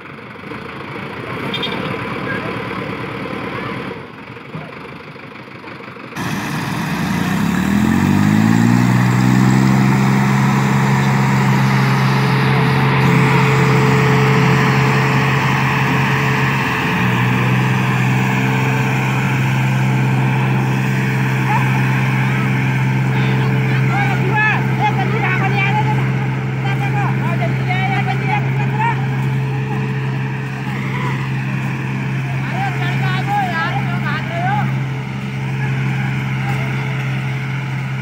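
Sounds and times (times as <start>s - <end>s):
tractor diesel engine revving: 0.0s - 38.0s.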